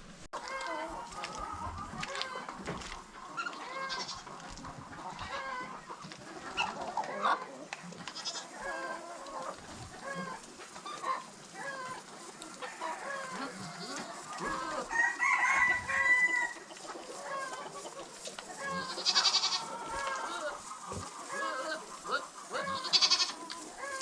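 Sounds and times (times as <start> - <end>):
chickens clucking: 0.0 - 24.0
chicken long drawn-out call: 0.4 - 24.0.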